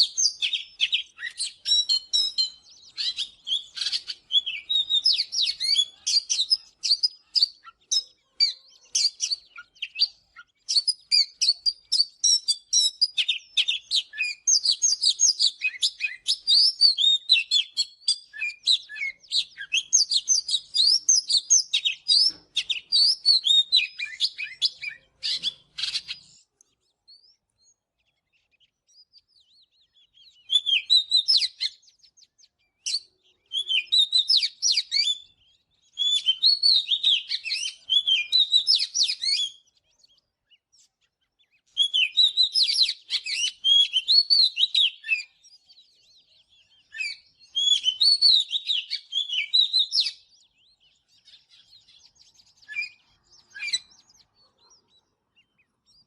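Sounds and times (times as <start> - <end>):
bird singing whistles and chirps: 0.0 - 56.0.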